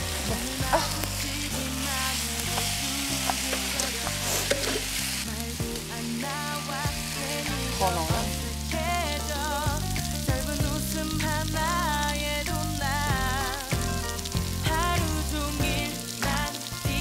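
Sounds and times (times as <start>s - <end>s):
background music: 0.0s - 17.0s
rice sizzling in an iron pan: 0.0s - 17.0s.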